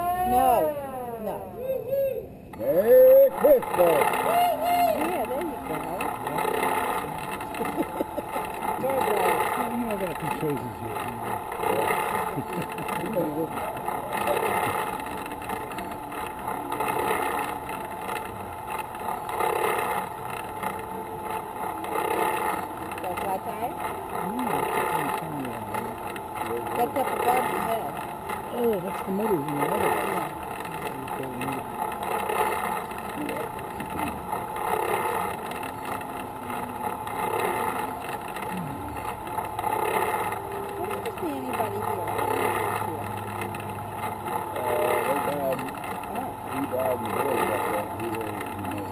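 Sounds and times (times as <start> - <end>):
vehicle engine running: 2.6 - 48.9.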